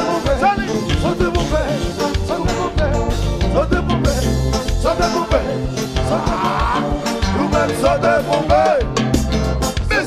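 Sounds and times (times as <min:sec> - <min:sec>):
man singing: 0:00.0 - 0:09.2, 0:09.8 - 0:10.0
bass line: 0:00.0 - 0:10.0
guitars: 0:00.0 - 0:10.0
live band playing: 0:00.0 - 0:10.0.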